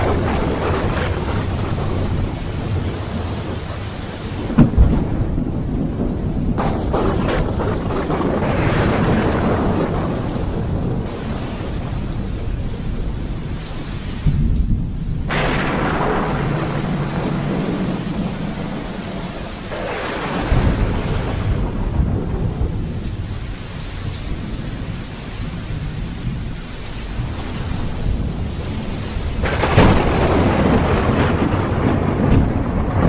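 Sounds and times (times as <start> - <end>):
steady rain: 0.0 - 33.0
thunder cracks and rumble: 0.0 - 33.0.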